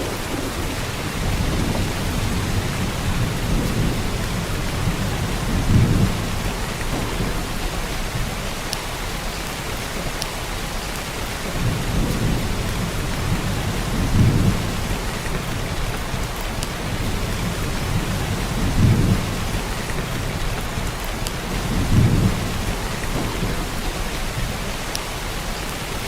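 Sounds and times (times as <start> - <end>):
heavy rain hissing: 0.0 - 26.0
thunder rumbling: 0.0 - 26.0.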